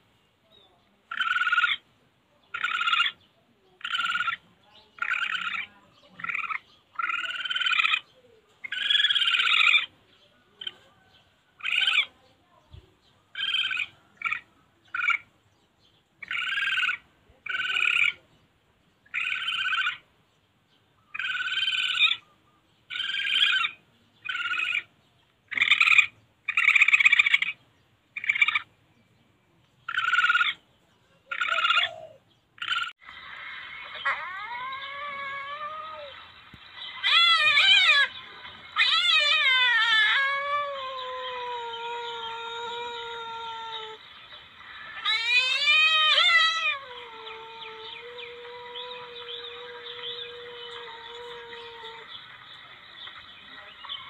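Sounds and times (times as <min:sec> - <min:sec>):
civet calls: 0:01.1 - 0:01.9, 0:02.5 - 0:12.2, 0:13.3 - 0:15.3, 0:16.2 - 0:18.2, 0:19.1 - 0:20.1, 0:21.0 - 0:22.3, 0:22.9 - 0:24.9, 0:25.5 - 0:27.6, 0:28.2 - 0:28.7, 0:29.9 - 0:30.6, 0:31.2 - 0:54.0.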